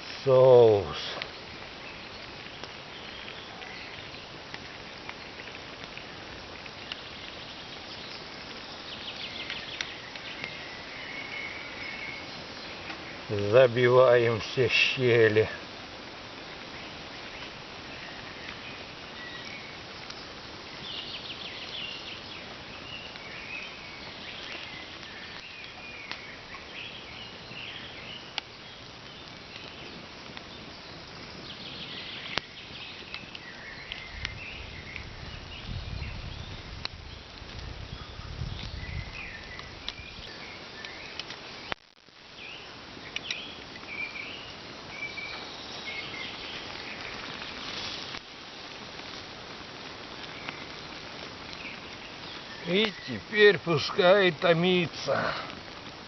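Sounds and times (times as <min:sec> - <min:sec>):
birds chirping: 0:00.0 - 0:56.0
outdoor hiss: 0:00.0 - 0:56.0.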